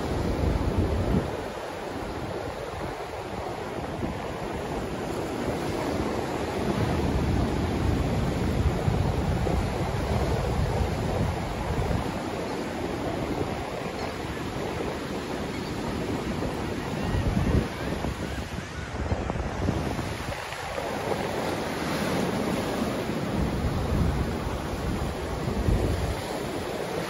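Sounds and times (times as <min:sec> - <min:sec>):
ocean waves washing up a beach: 0:00.0 - 0:27.0.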